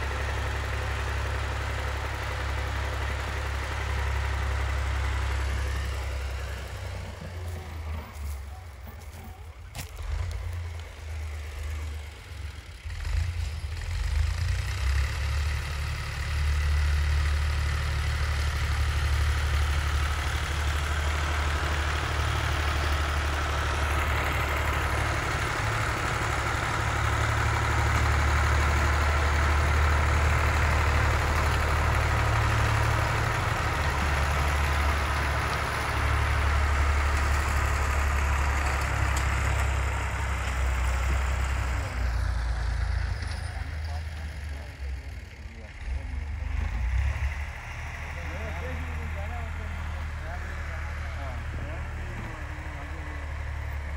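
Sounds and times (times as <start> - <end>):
tractor diesel engine humming: 0.0 - 53.9.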